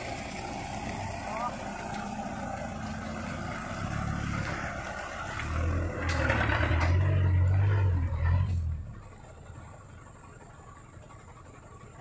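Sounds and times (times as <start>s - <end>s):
truck engine working hard: 0.0s - 12.0s.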